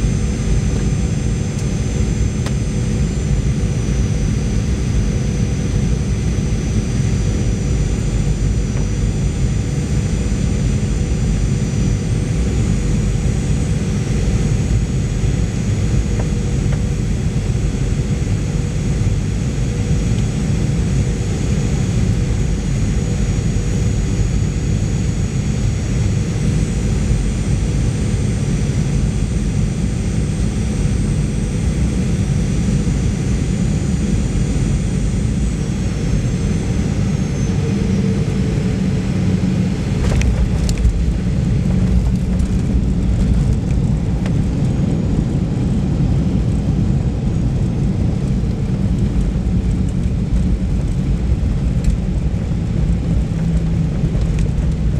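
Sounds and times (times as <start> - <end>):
high fan whine: 0.0 - 54.9
jet engine roar: 0.0 - 54.9
plane rolling on runway: 0.0 - 54.9.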